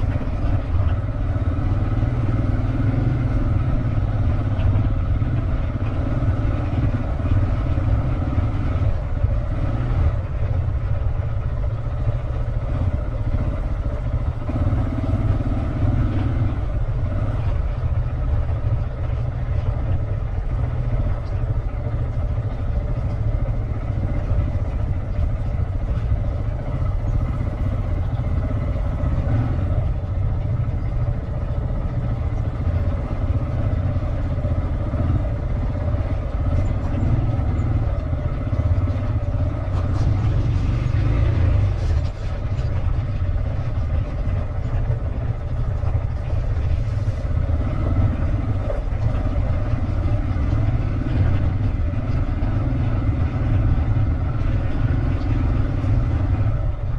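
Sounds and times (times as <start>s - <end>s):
motorcycle running: 0.0s - 56.9s.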